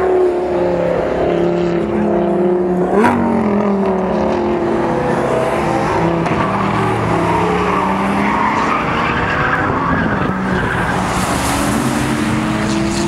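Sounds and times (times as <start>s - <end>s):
sports car engines racing: 0.0s - 13.0s.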